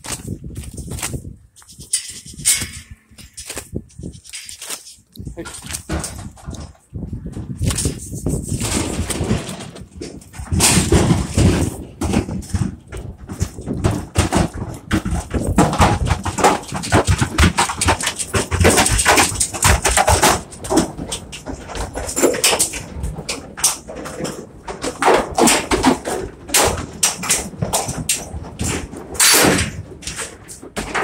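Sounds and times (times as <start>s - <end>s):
cattle hooves knocking in trailer: 5.3s - 31.0s.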